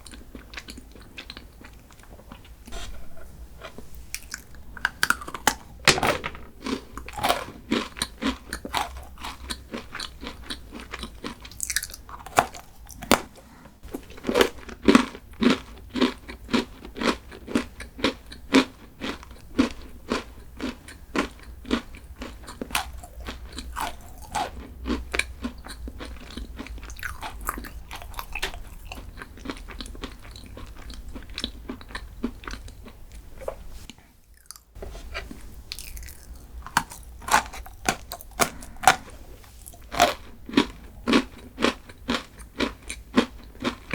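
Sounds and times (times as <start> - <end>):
crunchy food being chewed: 0.0 - 43.9.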